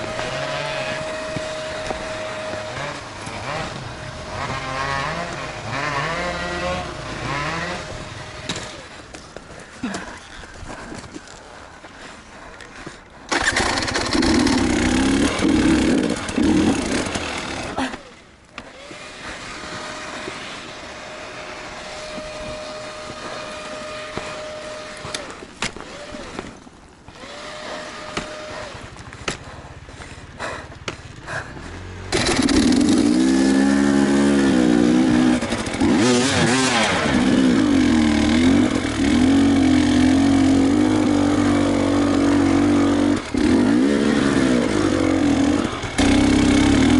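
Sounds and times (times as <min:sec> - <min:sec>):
motorcycle engine revving: 0:00.0 - 0:10.1, 0:13.3 - 0:18.0, 0:18.6 - 0:46.9.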